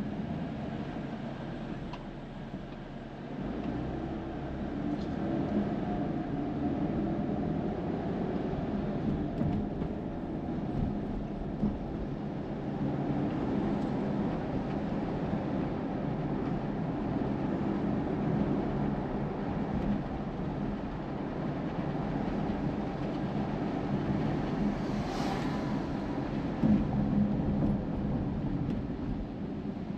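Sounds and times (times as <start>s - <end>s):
car engine and road drone: 0.0s - 29.9s.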